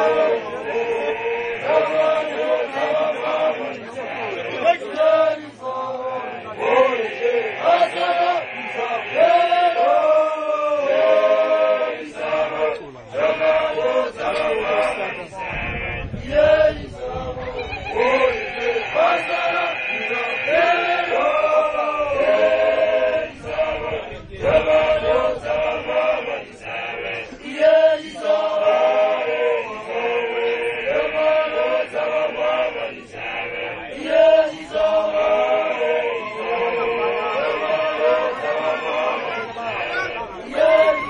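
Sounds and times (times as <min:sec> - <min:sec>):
group chanting a song: 0:00.0 - 0:41.0.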